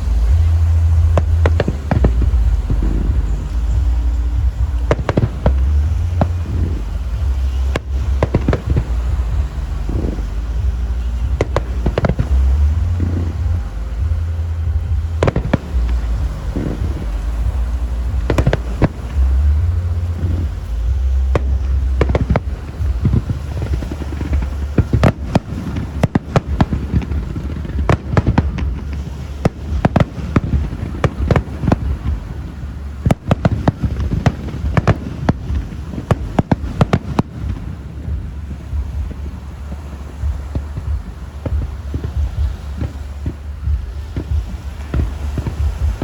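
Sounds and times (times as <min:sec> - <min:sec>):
continuous low rumble: 0:00.0 - 0:46.0
fireworks bangs: 0:00.0 - 0:46.0.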